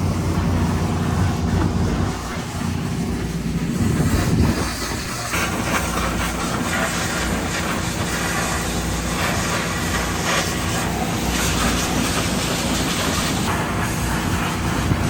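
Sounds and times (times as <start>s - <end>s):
high-pressure spray hissing: 0.0s - 15.0s
pressure washer engine running: 0.0s - 15.0s.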